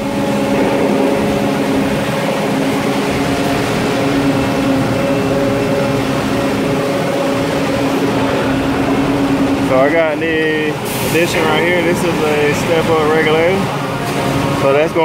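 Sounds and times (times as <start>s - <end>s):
even rushing noise: 0.0s - 14.6s
droning tones: 0.0s - 15.0s
steady mechanical hum: 0.0s - 15.0s.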